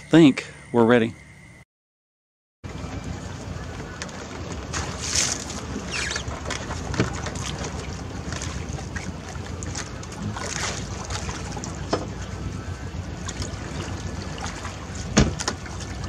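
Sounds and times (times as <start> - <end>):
water sloshing and splashing: 2.7 - 16.0
wind rumble on microphone: 2.7 - 16.0.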